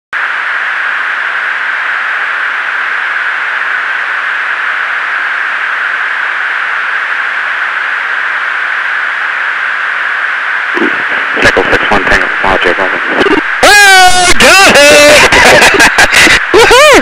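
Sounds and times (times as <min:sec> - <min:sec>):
steady intercom hiss: 0:00.2 - 0:17.0.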